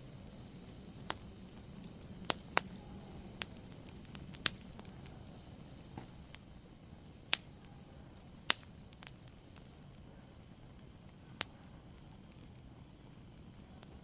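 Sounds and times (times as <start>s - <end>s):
fire crackles and pops: 0.0s - 14.0s
fire hissing: 0.0s - 14.0s.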